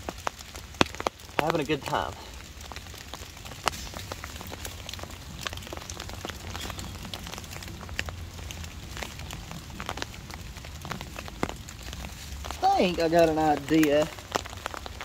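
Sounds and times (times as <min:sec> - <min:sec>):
rain on wet canvas tarp: 0:00.0 - 0:15.0.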